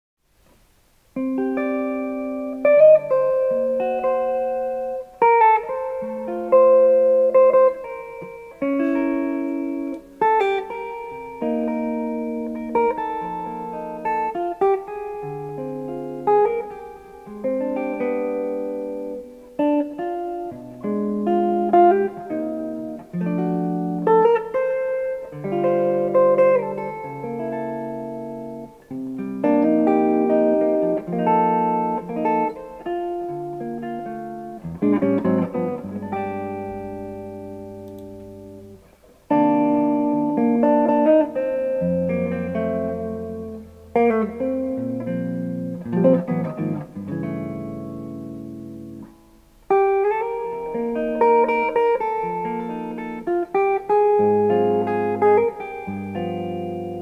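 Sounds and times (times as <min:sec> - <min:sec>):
jazz electric guitar ballad: 0:00.5 - 0:57.0.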